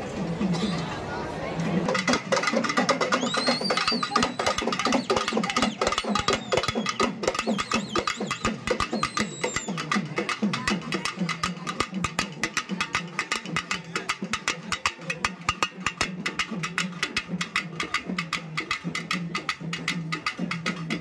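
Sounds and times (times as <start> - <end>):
drums beaten fast: 1.8 - 21.0.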